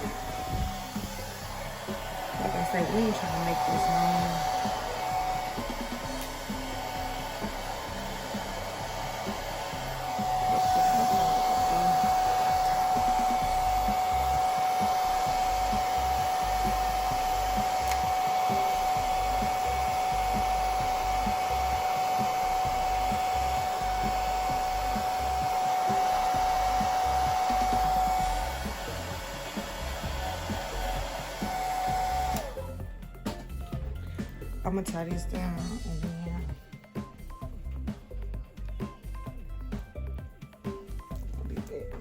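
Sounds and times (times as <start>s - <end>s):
hair dryer blowing: 0.0s - 38.3s.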